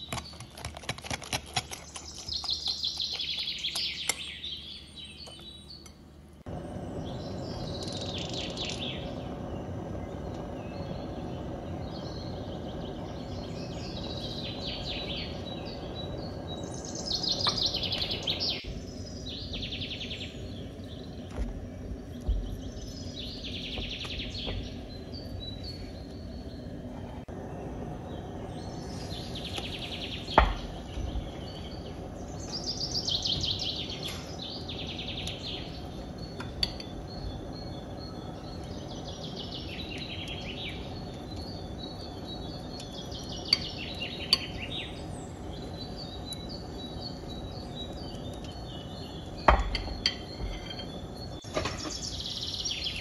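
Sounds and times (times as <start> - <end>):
birds chirping trilled phrases: 1.8 - 53.0.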